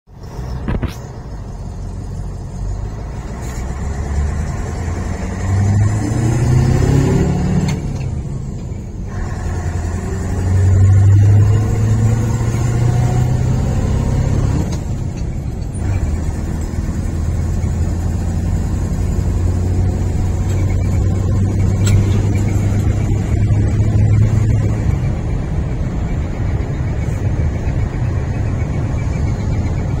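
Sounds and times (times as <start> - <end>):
diesel truck engine accelerating: 0.1 - 30.0.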